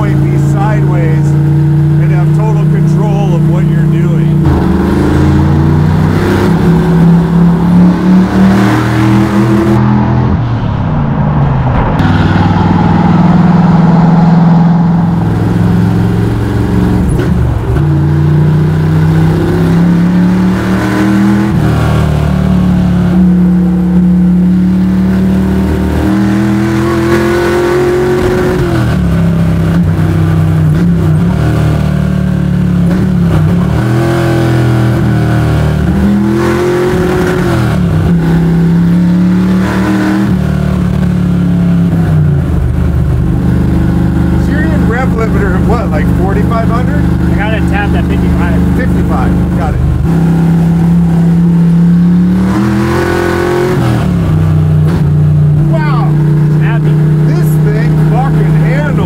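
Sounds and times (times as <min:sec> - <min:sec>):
engine revving hard: 0:00.0 - 0:59.0.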